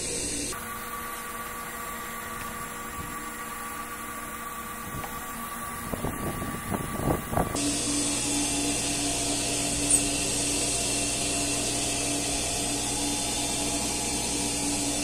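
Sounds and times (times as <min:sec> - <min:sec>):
pool pump humming: 0:00.0 - 0:15.0.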